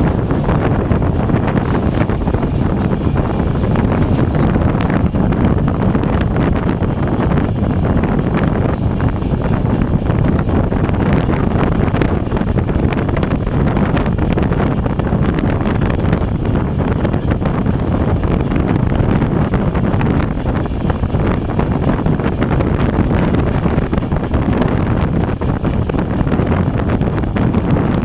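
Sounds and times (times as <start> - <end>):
train running on rails: 0.0 - 28.0
wind buffeting microphone: 0.0 - 28.0.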